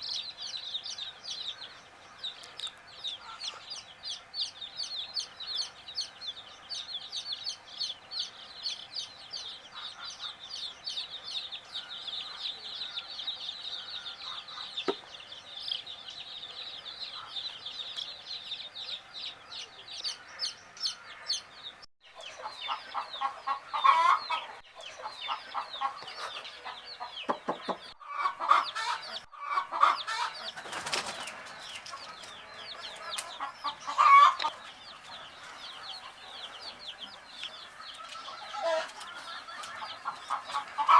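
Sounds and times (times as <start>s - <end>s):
baby chicks peeping: 0.0s - 40.9s
chicken clucking: 0.0s - 40.9s.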